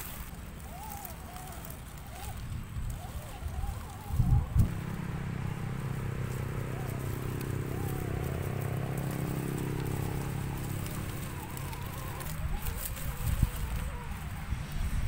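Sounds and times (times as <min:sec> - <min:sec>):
electric motor whining: 0:00.0 - 0:15.0
leaves crackling under tyres: 0:00.0 - 0:15.0.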